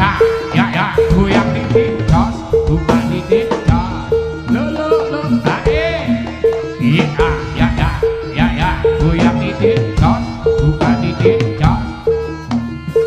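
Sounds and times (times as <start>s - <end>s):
gliding melody line: 0.0s - 13.0s
hand drums beating: 0.0s - 13.0s
tuned gongs pattern: 0.0s - 13.0s.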